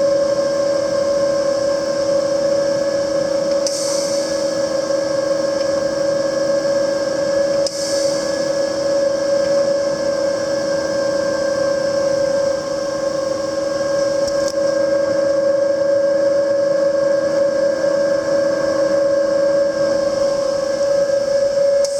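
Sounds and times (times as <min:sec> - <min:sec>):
welder humming: 0:00.0 - 0:21.9.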